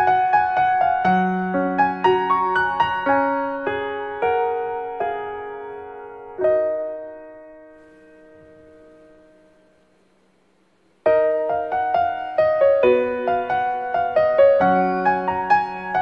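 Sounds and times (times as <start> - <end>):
piano music: 0.0 - 9.8, 11.0 - 16.0.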